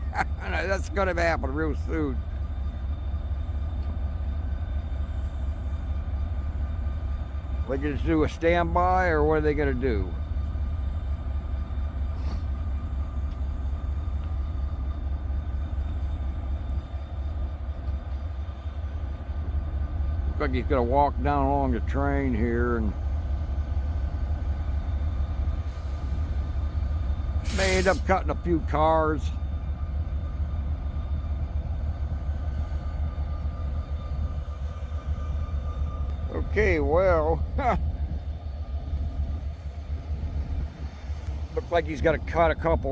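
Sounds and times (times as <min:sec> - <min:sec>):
engine idling rumble: 0:00.0 - 0:42.9
faint whining tones: 0:00.8 - 0:42.9.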